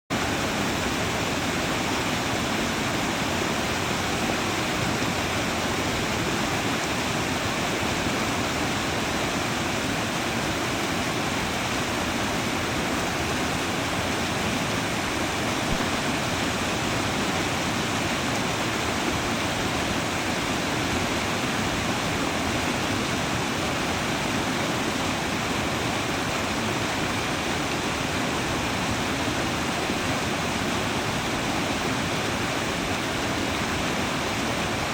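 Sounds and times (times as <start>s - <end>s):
creek water rushing: 0.1s - 34.9s.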